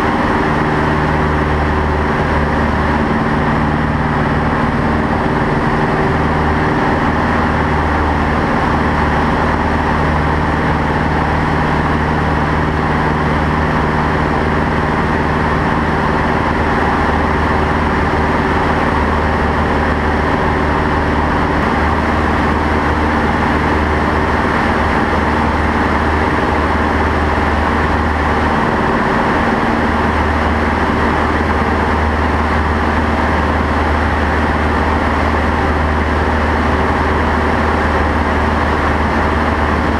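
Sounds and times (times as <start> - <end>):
light aircraft engine and propeller: 0.0 - 39.9
wind noise over canopy: 0.0 - 39.9.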